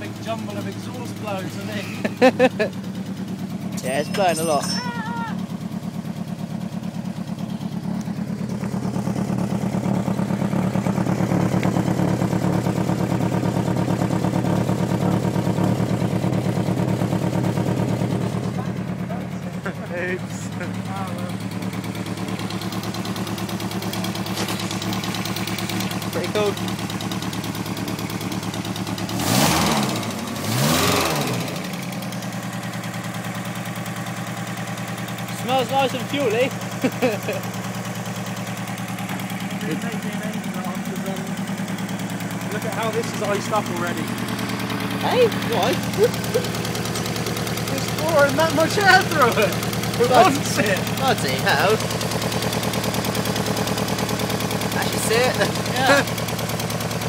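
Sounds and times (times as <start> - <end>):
exhaust leak blowing: 0.0 - 57.0
rough turbocharged car engine: 0.0 - 57.0.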